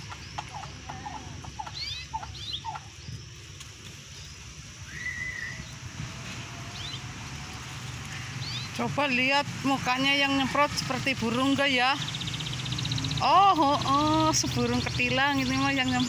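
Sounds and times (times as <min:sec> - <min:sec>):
canaries chirping: 0:00.0 - 0:03.3, 0:04.2 - 0:16.0.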